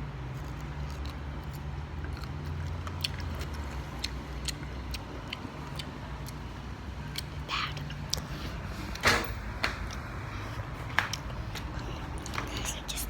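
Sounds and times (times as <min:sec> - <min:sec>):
person chewing food: 0:00.2 - 0:09.0, 0:09.7 - 0:13.0.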